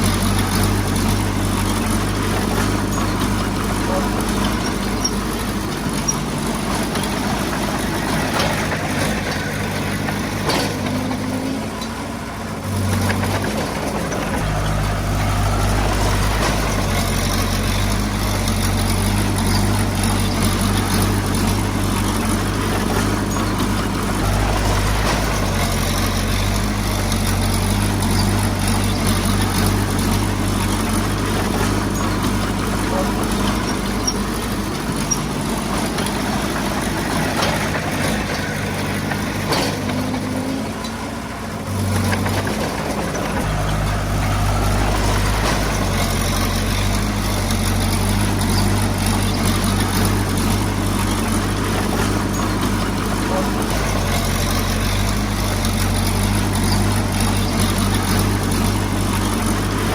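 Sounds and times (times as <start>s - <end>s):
diesel engine of heavy machinery: 0.0s - 59.9s.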